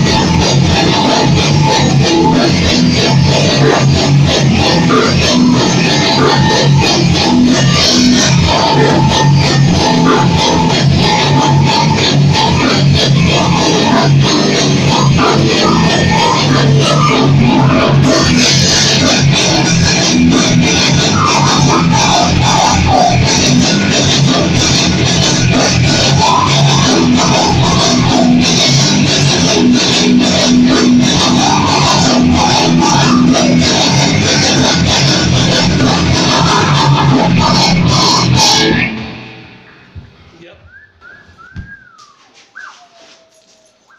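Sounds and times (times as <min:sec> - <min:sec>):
distorted electric guitar riffing: 0:00.0 - 0:40.9.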